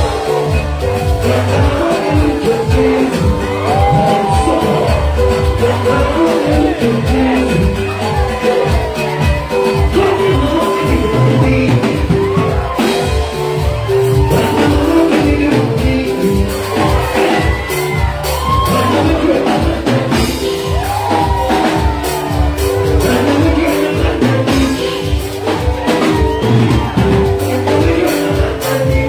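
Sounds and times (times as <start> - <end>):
live band music: 0.0 - 29.0
man singing into a microphone: 0.0 - 29.0.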